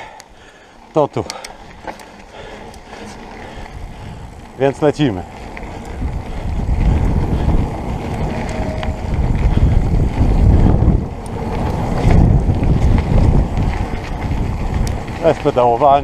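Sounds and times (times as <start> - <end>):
bike clicks and rattles: 0.0 - 16.0
tyres rumbling on gravel: 0.4 - 16.0
wind buffeting the microphone: 1.6 - 16.0.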